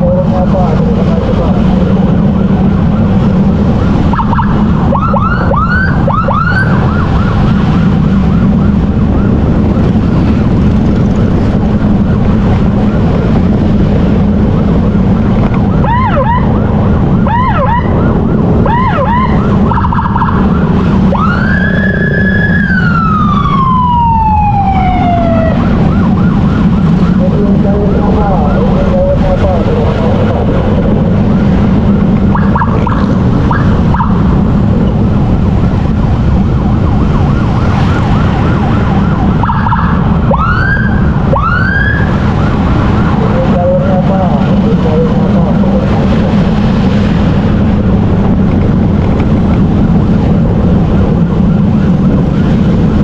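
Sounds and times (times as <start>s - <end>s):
emergency siren whooping and wailing: 0.0s - 53.0s
wind while riding: 0.0s - 53.0s.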